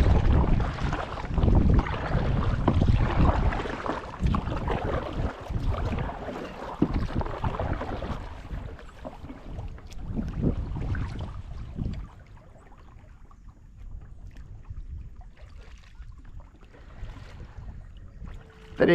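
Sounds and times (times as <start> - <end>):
paddle strokes splashing water: 0.0 - 18.9
wind buffeting microphone: 0.0 - 18.9.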